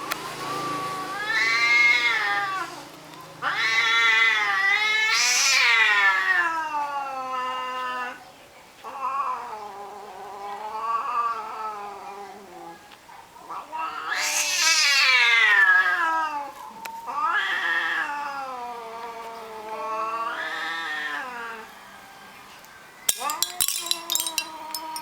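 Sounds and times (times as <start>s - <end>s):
cats caterwauling: 0.6s - 8.2s, 8.8s - 21.8s.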